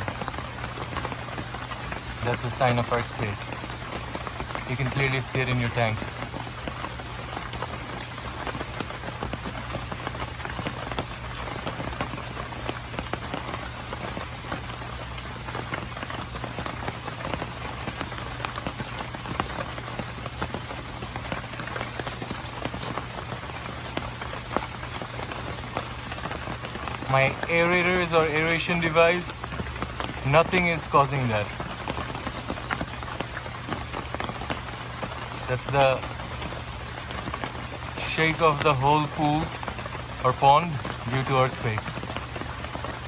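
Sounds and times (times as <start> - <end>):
continuous low hum: 0.0 - 43.0.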